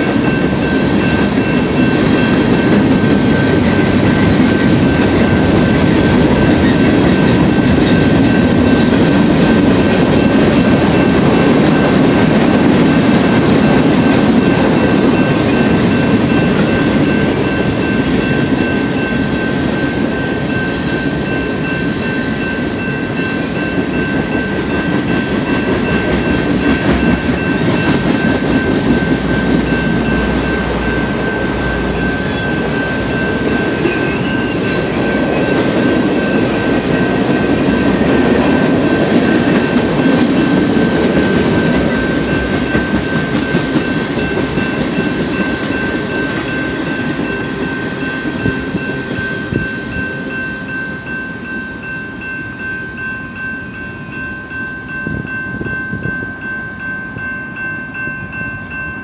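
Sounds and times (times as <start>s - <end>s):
crossing bell ringing: 0.0s - 59.0s.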